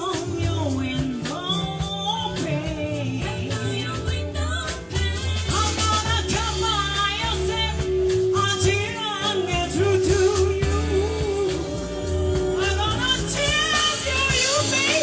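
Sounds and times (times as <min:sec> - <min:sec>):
lead singer singing: 0:00.0 - 0:15.0
live soul band playing: 0:00.0 - 0:15.0.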